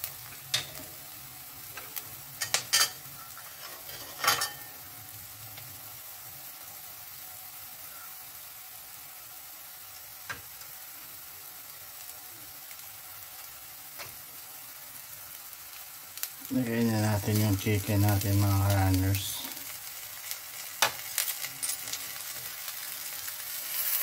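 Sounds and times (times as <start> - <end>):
onion sizzling in oil: 0.0 - 24.0.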